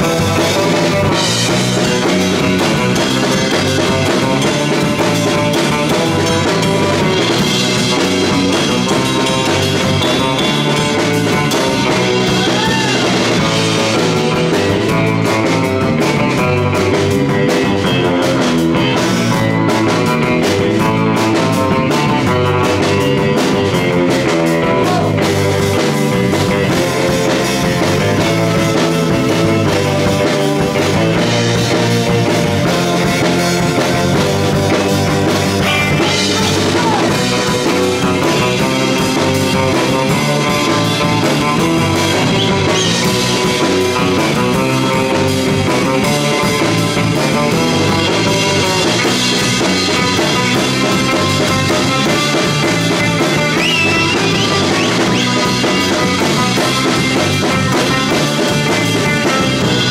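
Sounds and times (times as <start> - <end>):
surf rock band playing: 0.0 - 59.9.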